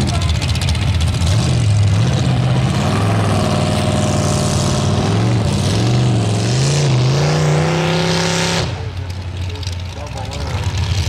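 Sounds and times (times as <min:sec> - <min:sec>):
pickup truck engine running hard: 0:00.0 - 0:11.0.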